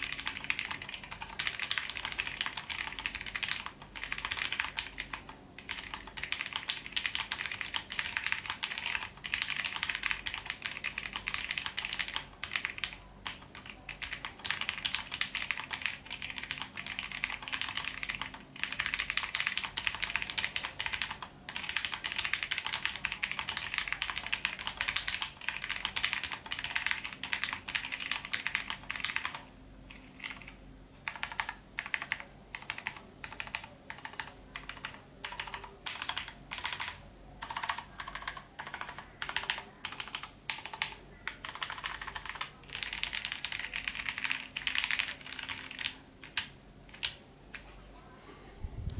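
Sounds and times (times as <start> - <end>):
mechanical keyboard typing: 0.0 - 47.7.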